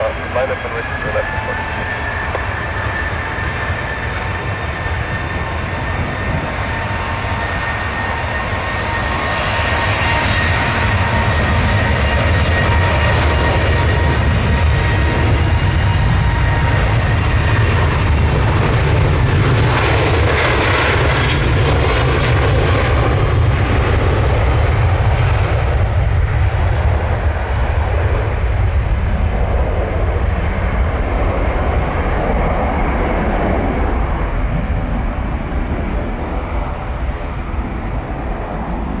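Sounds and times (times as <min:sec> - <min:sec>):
jet engines roaring: 0:00.0 - 0:39.0.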